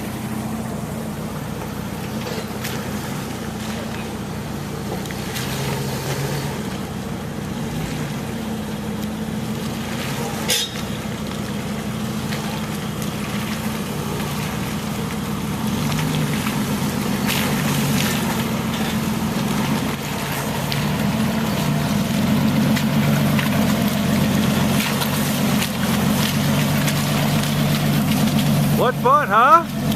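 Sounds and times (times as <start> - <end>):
engine running under load: 0.0 - 29.9.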